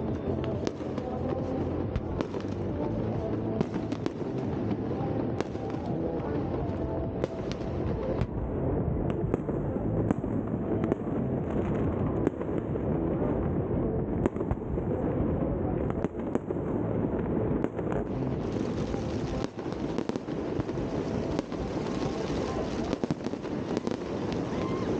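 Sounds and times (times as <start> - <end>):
fireworks popping and banging: 0.0 - 24.9
low rumble: 0.0 - 24.9.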